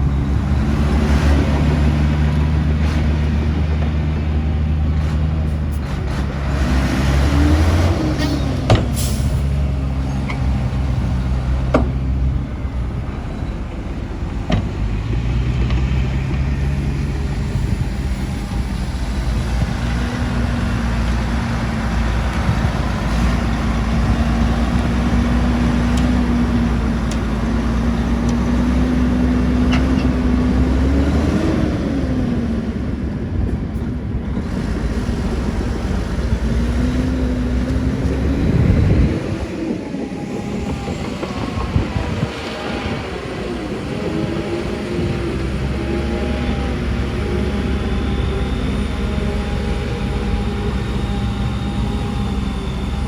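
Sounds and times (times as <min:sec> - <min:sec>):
heavy diesel engines running: 0:00.0 - 0:53.0.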